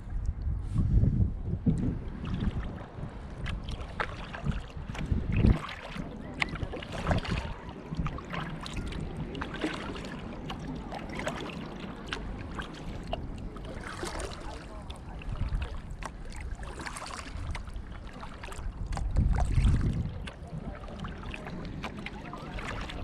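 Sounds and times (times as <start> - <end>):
wind rumble on microphone: 0.0 - 23.0
paddle splashing in water: 1.8 - 23.0.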